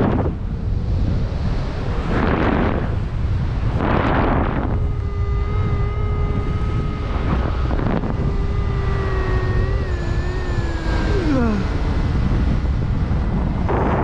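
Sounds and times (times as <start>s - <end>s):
constant low rumble: 0.0s - 14.0s
steady whining tone: 0.0s - 14.0s
wind buffeting microphone: 0.0s - 14.0s.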